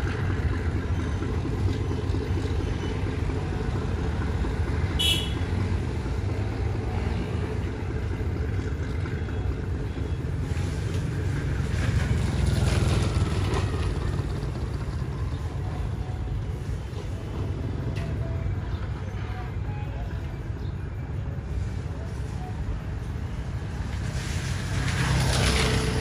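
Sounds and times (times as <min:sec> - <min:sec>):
diesel locomotive running: 0:00.0 - 0:26.0
street traffic rumble: 0:00.0 - 0:26.0.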